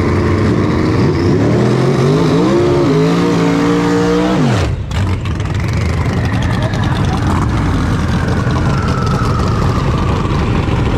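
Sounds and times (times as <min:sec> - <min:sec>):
truck engine revving: 0:00.0 - 0:10.9.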